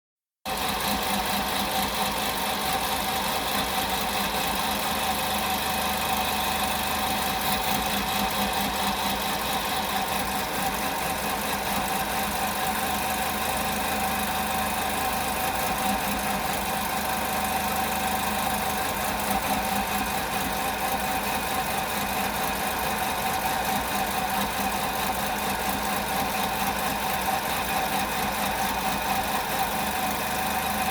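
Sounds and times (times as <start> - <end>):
car engine idling roughly: 0.5 - 30.9.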